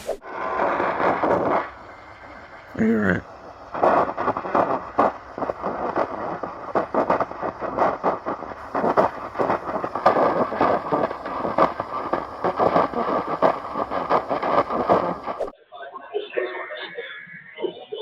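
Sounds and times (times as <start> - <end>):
radio static crackling: 0.0 - 15.5.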